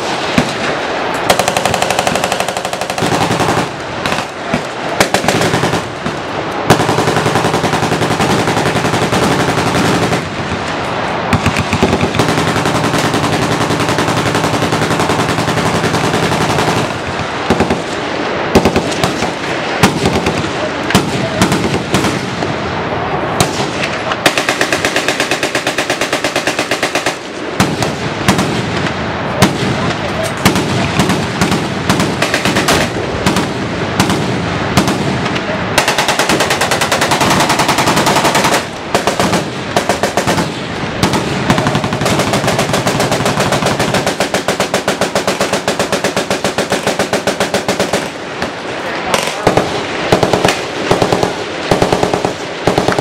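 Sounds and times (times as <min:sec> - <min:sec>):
machine guns firing bursts: 0:01.3 - 0:10.3, 0:11.4 - 0:17.9, 0:18.6 - 0:22.3, 0:24.2 - 0:28.6, 0:30.4 - 0:35.2, 0:35.8 - 0:48.2, 0:49.2 - 0:53.0.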